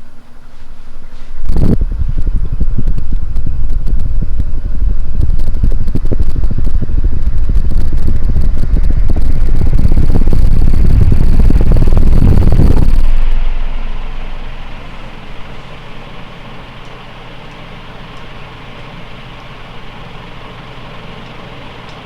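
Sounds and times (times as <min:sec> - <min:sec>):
faint high motor whine: 0:00.0 - 0:22.0
fan air buffeting microphone: 0:00.0 - 0:22.0.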